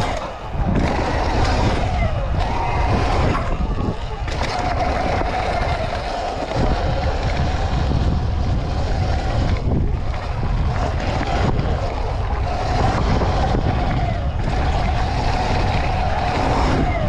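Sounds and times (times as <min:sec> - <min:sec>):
electric motor whine: 0:00.0 - 0:17.0
wind buffeting microphone: 0:00.0 - 0:17.0.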